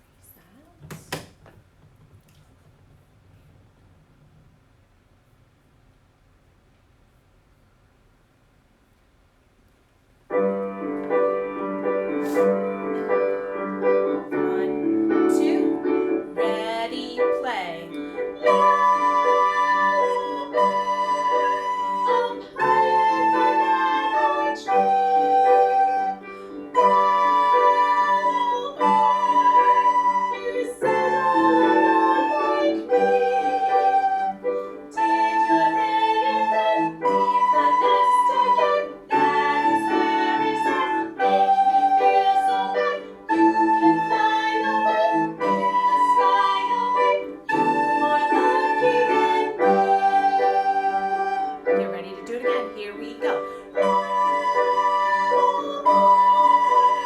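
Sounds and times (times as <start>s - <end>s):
instrumental backing track: 10.3s - 57.0s
soprano recorder playing: 11.2s - 57.0s.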